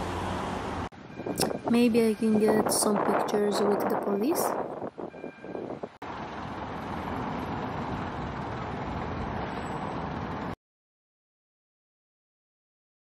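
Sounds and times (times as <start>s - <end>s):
street traffic rumble: 0.0s - 10.6s.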